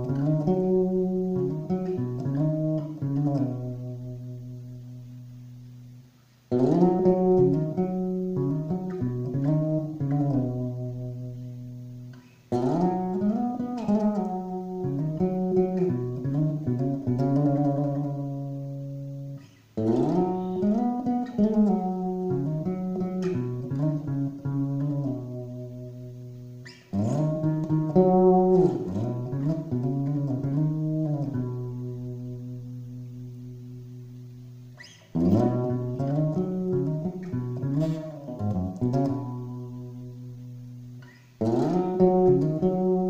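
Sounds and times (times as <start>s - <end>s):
electric bass guitar solo: 0.0s - 43.0s.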